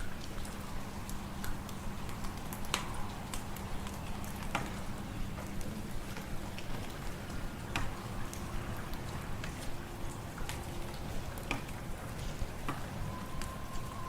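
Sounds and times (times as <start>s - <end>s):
low wind rumble: 0.0s - 14.0s
wood fire crackling: 0.0s - 14.0s.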